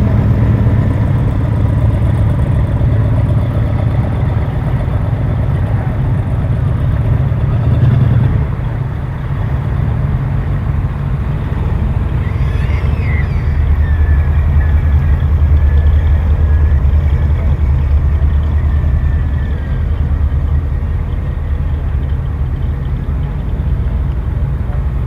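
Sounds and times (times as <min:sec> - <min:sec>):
another engine rumbling: 0:00.0 - 0:25.0
car engine deep rumble: 0:00.0 - 0:25.0.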